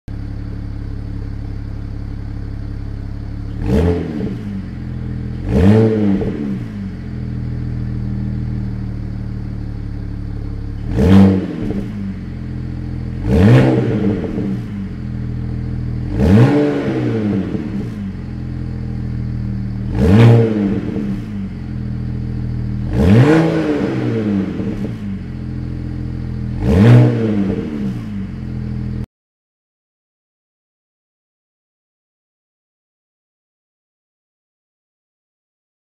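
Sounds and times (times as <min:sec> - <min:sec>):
car engine idling and revving: 0:00.1 - 0:29.1.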